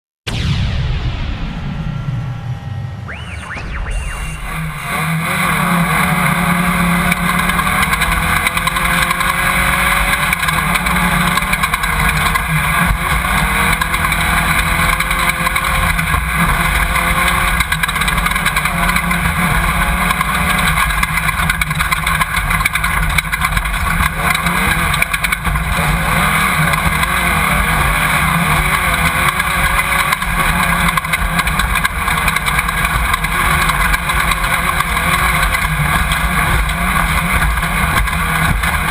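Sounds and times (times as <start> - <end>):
race car engine revving: 1.9 - 38.9
rushing and rattling of car: 4.7 - 38.9.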